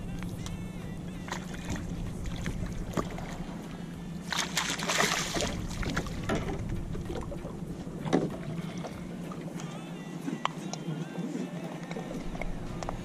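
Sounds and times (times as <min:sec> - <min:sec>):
boat engine low hum: 0:00.0 - 0:13.0
water noise: 0:00.0 - 0:13.0
wind: 0:00.0 - 0:13.0.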